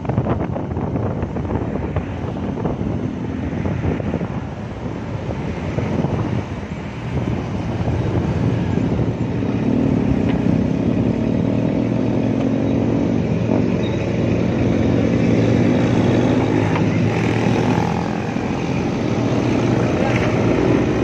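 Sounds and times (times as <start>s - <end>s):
motorcycle engine at low speed: 0.0s - 21.0s
road rumble: 0.0s - 21.0s
wind: 0.0s - 21.0s.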